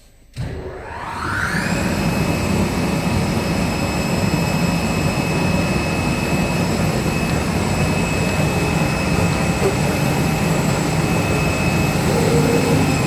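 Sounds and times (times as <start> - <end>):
cutting machine motor whining: 0.4 - 13.0.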